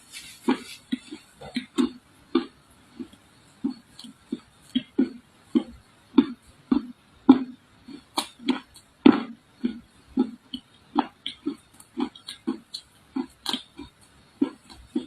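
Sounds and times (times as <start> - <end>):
clay being chewed: 0.1 - 15.0.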